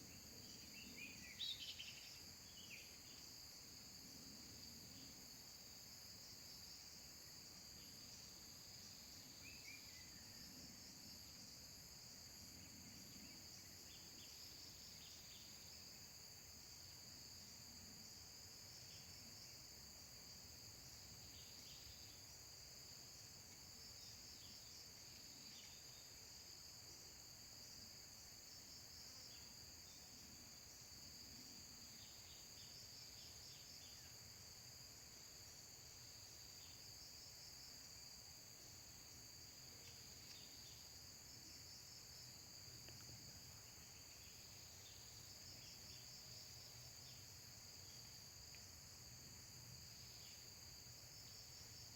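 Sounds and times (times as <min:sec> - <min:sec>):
crickets droning: 0:00.0 - 0:51.9.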